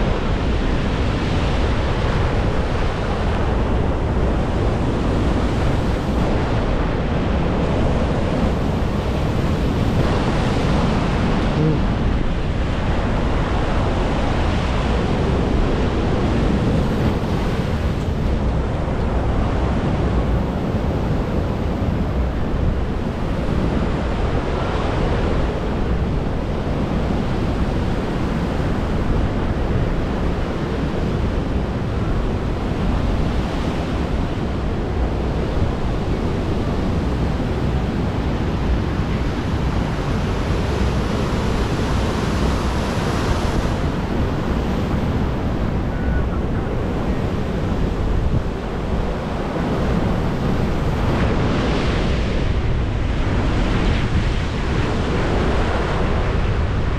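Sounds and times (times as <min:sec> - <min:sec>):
sea waves washing: 0:00.0 - 0:56.9
wind buffeting microphone: 0:00.0 - 0:56.9.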